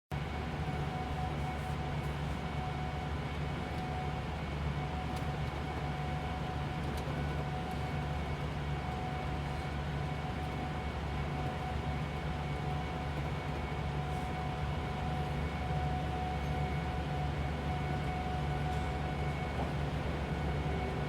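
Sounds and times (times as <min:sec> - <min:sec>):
bus engine and road drone: 0:00.2 - 0:21.0.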